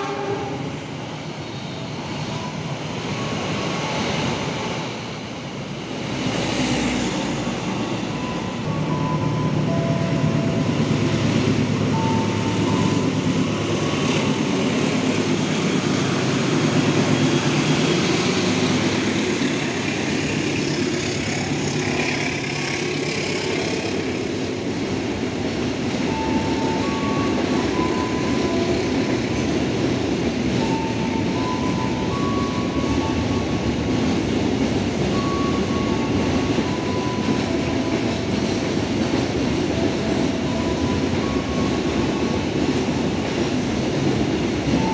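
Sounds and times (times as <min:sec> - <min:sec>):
freight train wheels rumbling: 0:00.0 - 0:44.9.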